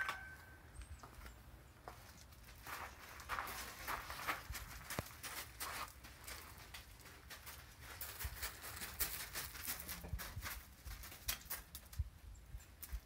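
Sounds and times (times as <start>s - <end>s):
footsteps crunching on gravel: 1.0s - 11.7s.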